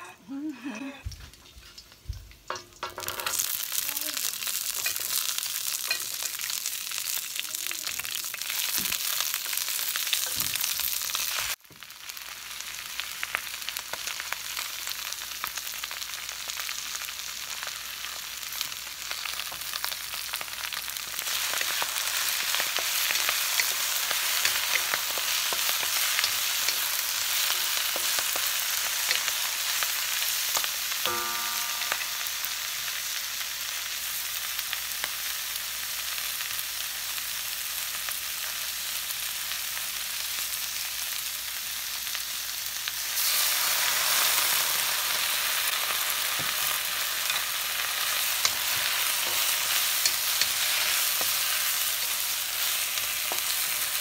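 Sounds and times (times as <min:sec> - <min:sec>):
vegetables sizzling in a wok: 0:00.0 - 0:54.0.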